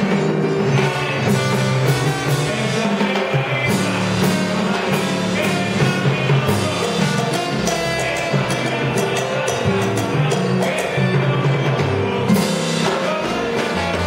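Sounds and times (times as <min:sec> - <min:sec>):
congas and timbales beating: 0:00.0 - 0:14.0
salsa band playing: 0:00.0 - 0:14.0.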